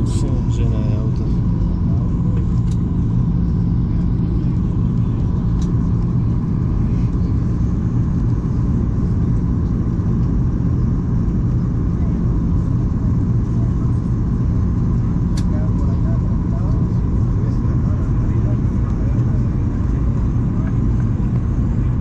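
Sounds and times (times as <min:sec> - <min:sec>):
airliner engines and airflow rumble: 0:00.0 - 0:22.0.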